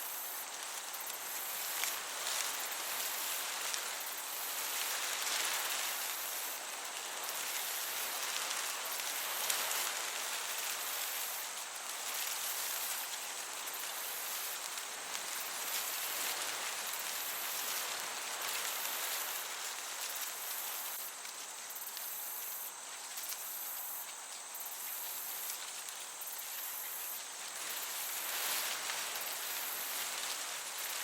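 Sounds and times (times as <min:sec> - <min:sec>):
crickets chirping: 0:00.0 - 0:31.0
gentle breeze hissing: 0:00.0 - 0:31.0
faint ticks: 0:00.2 - 0:31.0.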